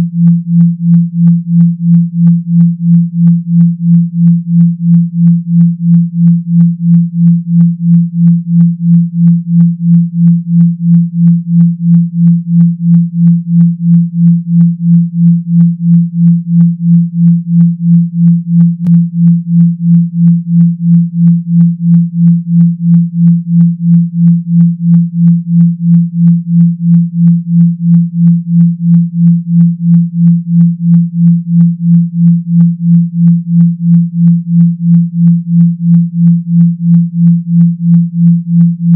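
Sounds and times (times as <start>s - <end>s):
pulsing deep electronic hum: 0.0s - 38.9s.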